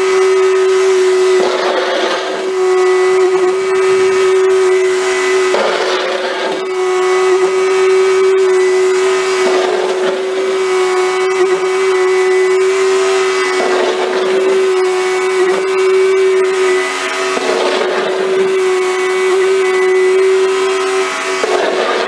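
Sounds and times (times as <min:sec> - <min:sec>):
skid-steer loader engine running: 0:00.0 - 0:22.0.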